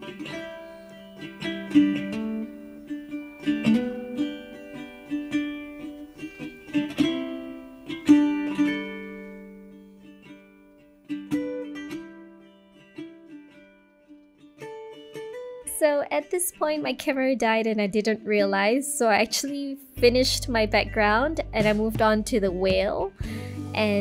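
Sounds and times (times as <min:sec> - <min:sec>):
plucked string music: 0:00.0 - 0:24.0.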